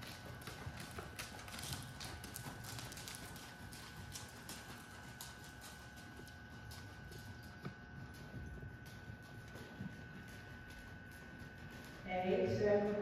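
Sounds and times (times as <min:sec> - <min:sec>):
horse hoofbeats trotting on sand: 0:00.0 - 0:13.0.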